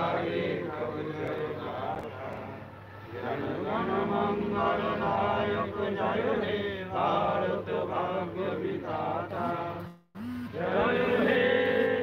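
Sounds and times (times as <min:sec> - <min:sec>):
monks chanting in unison: 0:00.0 - 0:09.7, 0:10.6 - 0:12.0.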